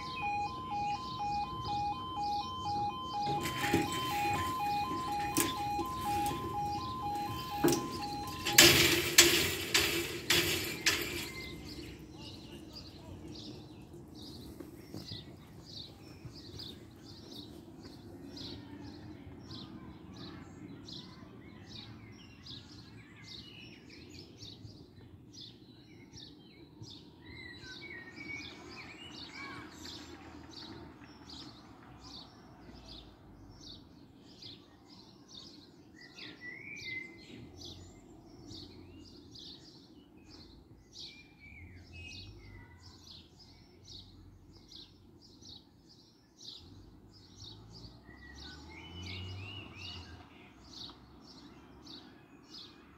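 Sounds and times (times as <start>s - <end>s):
birds singing: 0.0s - 52.9s.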